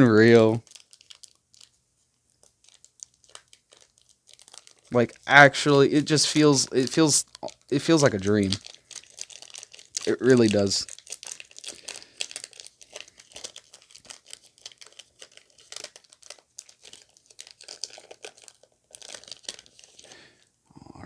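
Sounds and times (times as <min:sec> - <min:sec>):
cards and wrapper crinkling: 0:00.2 - 0:20.4.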